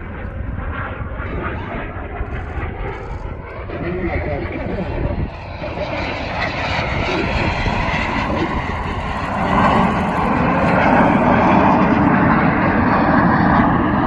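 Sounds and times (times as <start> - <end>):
jets passing in formation: 0.0 - 14.0.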